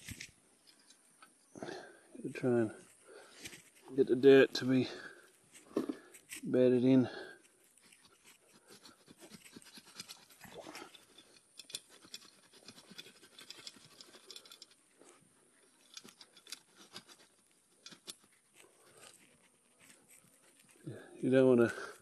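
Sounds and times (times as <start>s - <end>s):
hands scratching and crunching dirt: 0.0s - 1.1s, 1.7s - 4.0s, 4.6s - 22.0s.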